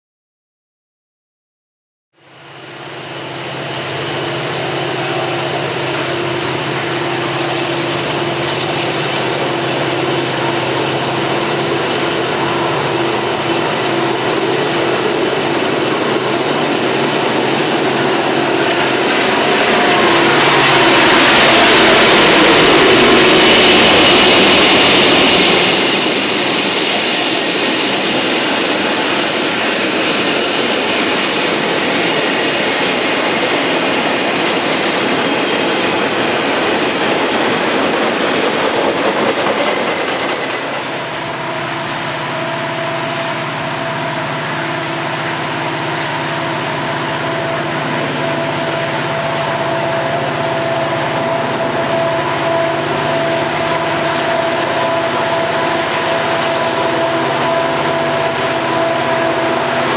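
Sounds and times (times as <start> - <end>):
diesel locomotive engine drone: 2.2 - 59.9
freight cars rolling on rails: 3.8 - 42.4, 43.3 - 59.9.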